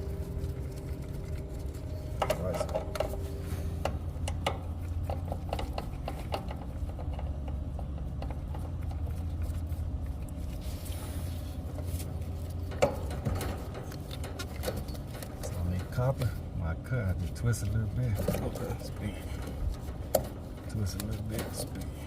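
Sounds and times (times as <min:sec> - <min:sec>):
hand tools clicking and scraping: 0:00.0 - 0:22.0
steady low hum: 0:00.0 - 0:22.0.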